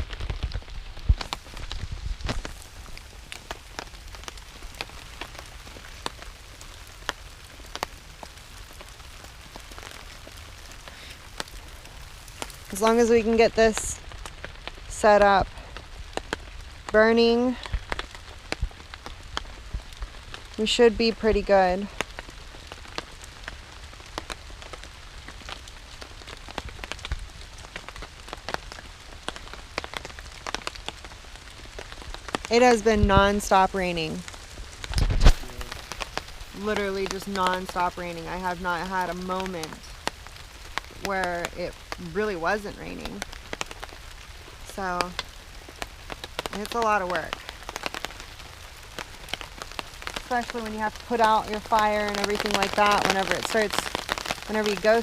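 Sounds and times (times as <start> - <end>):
heavy raindrops tapping: 0.0 - 55.0
steady rain falling: 0.0 - 55.0.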